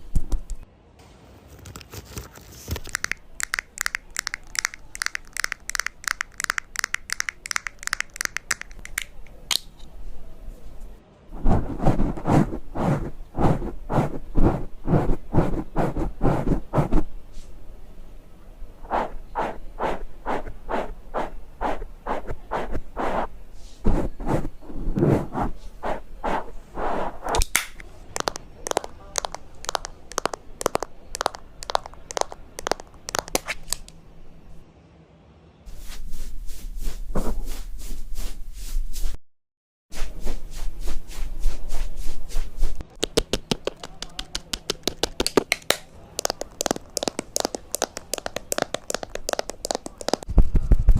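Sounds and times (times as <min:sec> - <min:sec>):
scratchy makeup brush strokes: 0:02.8 - 0:09.3, 0:10.8 - 0:17.5, 0:18.8 - 0:27.4, 0:28.2 - 0:33.9, 0:35.7 - 0:39.2, 0:40.0 - 0:45.6, 0:46.2 - 0:50.8.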